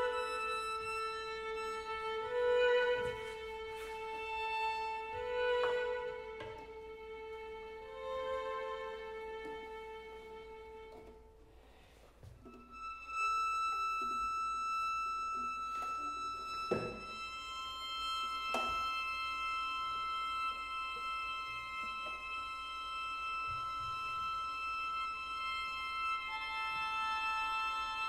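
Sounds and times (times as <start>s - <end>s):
string quartet playing: 0.0s - 11.6s, 12.2s - 28.0s.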